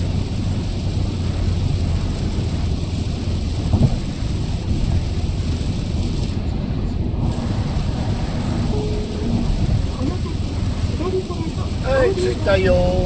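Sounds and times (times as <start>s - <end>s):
car engine and road rumble: 0.0s - 13.0s
rain and wet tyres hissing: 0.0s - 13.0s.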